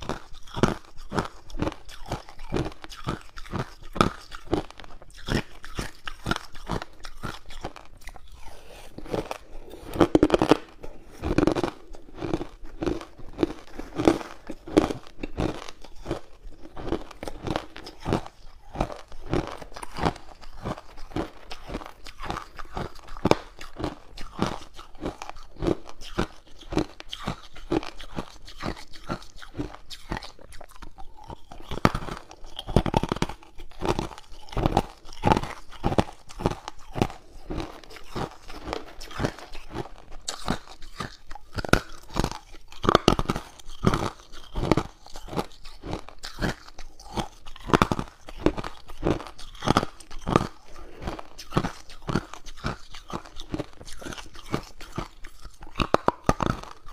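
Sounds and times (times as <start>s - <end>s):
ice cubes crunching: 0.0s - 56.9s.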